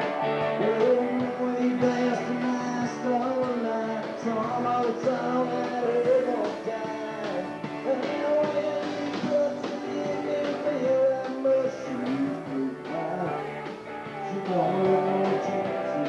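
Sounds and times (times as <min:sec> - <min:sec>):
rock and roll band music: 0:00.0 - 0:16.0.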